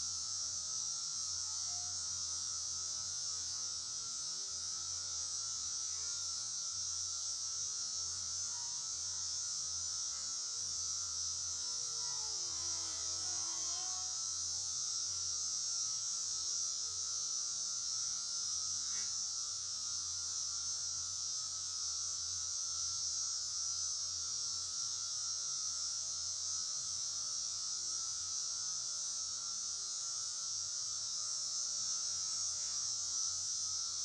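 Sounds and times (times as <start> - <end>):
high hiss: 0.0 - 34.0.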